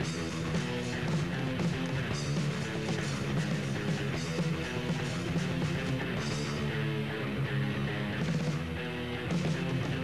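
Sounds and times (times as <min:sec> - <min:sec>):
hardcore punk music with guitar: 0:00.0 - 0:10.0.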